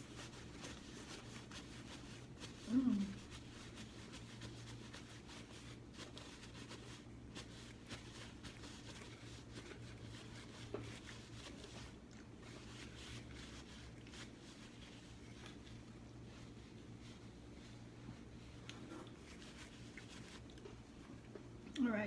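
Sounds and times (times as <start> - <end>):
paper napkin rustling: 0.0 - 21.0
steady low hum: 0.0 - 22.0.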